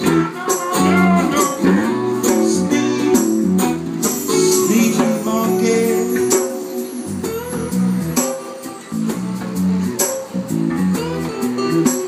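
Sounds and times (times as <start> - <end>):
acoustic guitars strummed: 0.0 - 12.0
bending lead melody line: 0.0 - 12.0.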